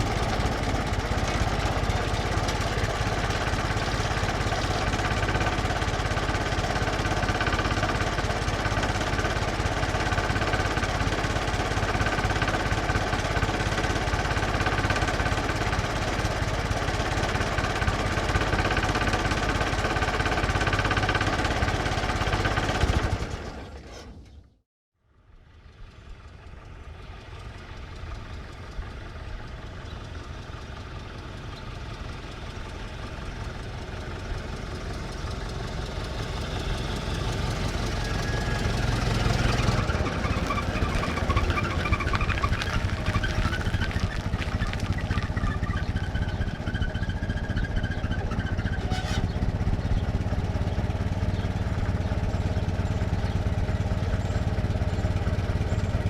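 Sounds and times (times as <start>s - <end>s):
old car engine idling: 0.0s - 23.6s, 25.4s - 56.0s.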